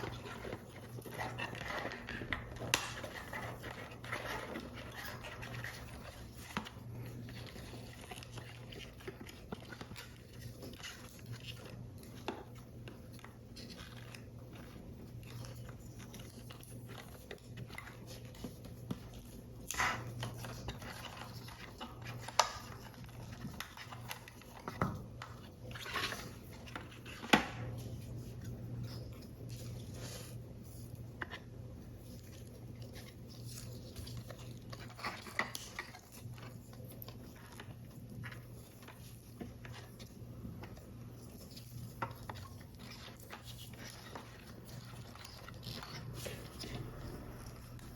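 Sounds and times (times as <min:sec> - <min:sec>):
paper rustling: 0:00.0 - 0:47.9.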